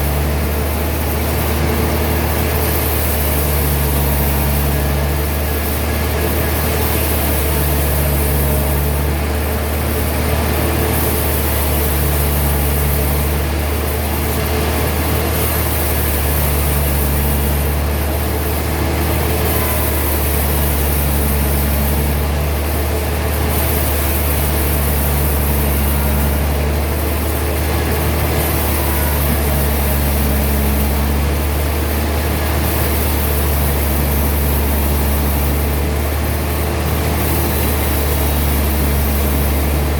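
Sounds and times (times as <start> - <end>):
higher machine hum: 0.0 - 39.9
sawmill machinery deep hum: 0.0 - 39.9.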